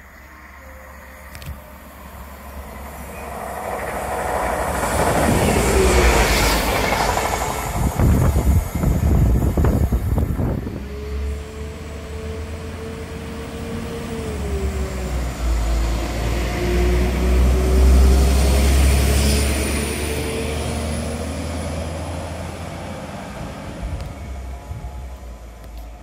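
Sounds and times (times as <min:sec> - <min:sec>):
train engine rumble and whine: 0:00.0 - 0:26.0.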